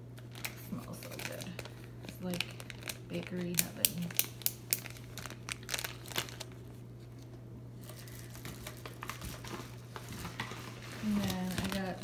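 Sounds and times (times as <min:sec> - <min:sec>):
plastic bags crinkling: 0:00.1 - 0:12.0.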